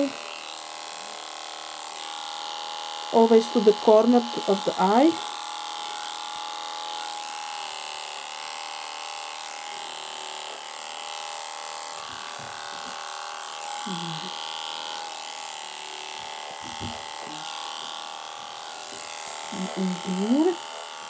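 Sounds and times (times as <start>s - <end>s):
electric clipper buzzing: 0.0s - 21.0s.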